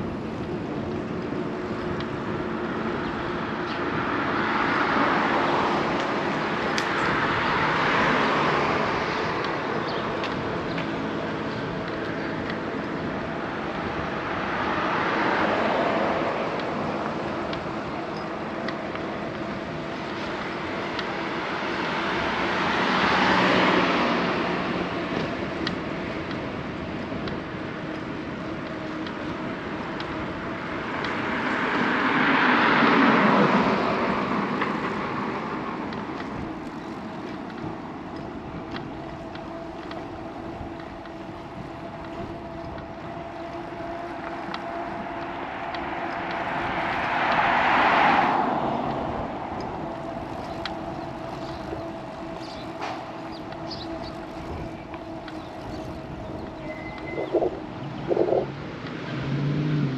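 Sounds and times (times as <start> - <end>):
bicycle ride hum and rushing: 0.0 - 59.9
motor vehicles passing: 0.0 - 59.9.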